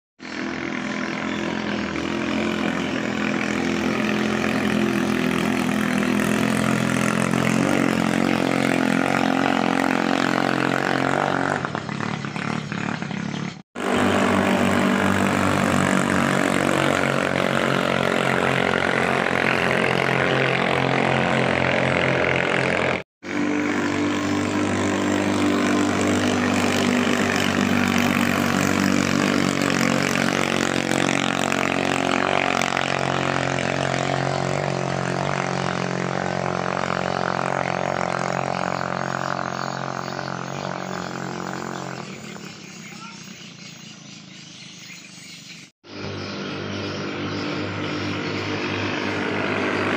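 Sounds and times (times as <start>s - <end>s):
small boat engine running: 0.2s - 44.9s, 45.8s - 49.9s.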